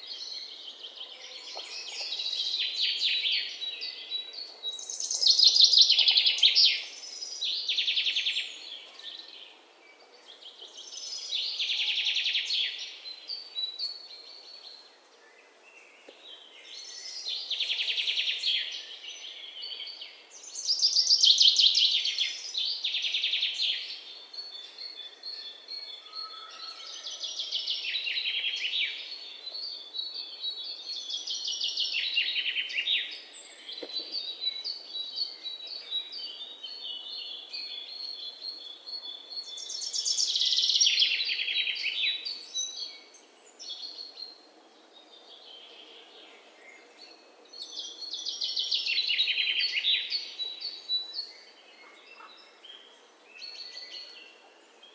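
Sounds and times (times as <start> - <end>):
quiet bird chirps: 0.0 - 54.9.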